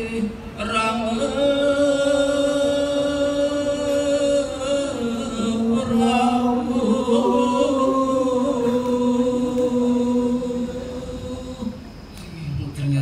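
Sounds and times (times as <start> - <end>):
man chanting into a microphone: 0.0 - 11.8.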